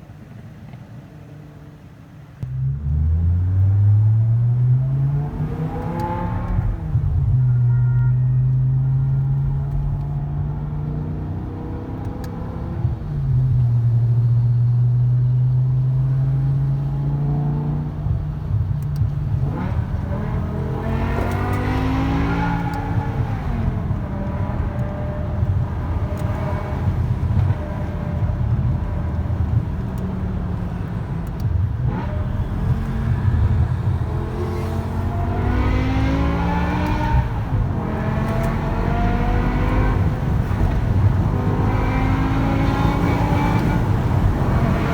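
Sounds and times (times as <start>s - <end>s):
car engine droning and revving: 2.4s - 44.9s.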